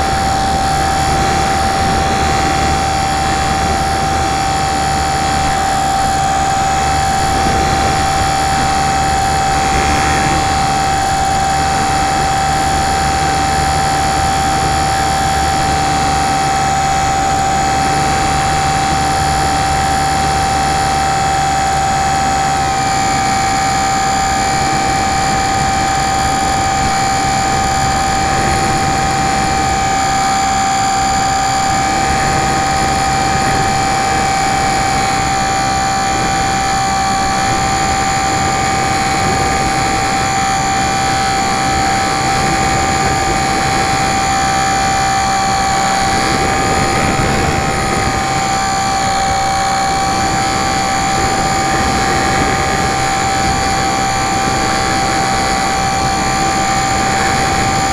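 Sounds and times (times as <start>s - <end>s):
model plane motor whine: 0.0s - 57.9s
rush of wind: 0.0s - 57.9s.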